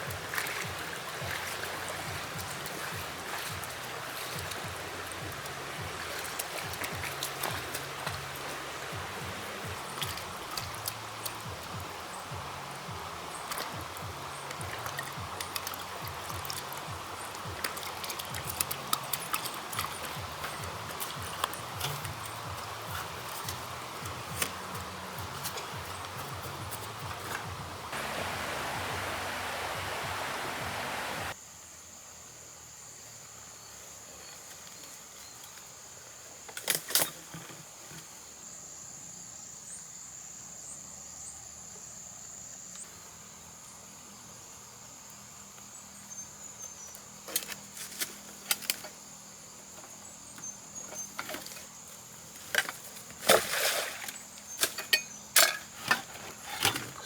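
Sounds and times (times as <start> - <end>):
insect trill: 2.0 - 57.0.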